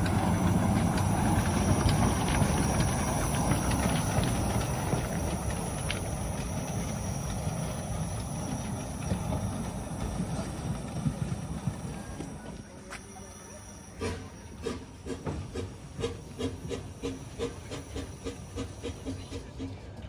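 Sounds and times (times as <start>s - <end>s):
steam train rumbling: 0.0s - 20.0s.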